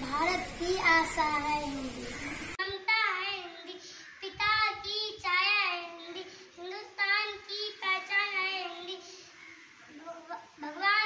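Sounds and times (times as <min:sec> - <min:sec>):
girl singing a chanted tune: 0:00.0 - 0:09.3, 0:09.9 - 0:11.0.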